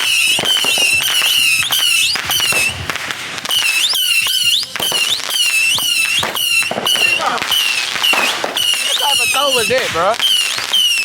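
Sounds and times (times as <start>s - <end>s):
fireworks crackling pops: 0.0s - 11.0s
fireworks whistling: 0.0s - 11.0s.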